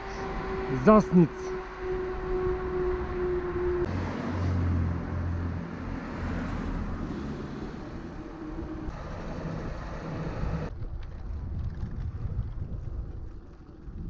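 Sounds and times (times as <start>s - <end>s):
motor vehicle engine running: 0.0s - 14.0s
road noise: 0.0s - 14.0s.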